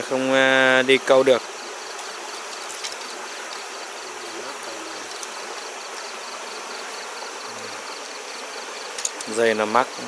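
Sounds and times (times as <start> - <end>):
continuous hiss: 0.0 - 10.0
high pulsing insect call: 0.0 - 10.0
night insects calling: 0.0 - 10.0.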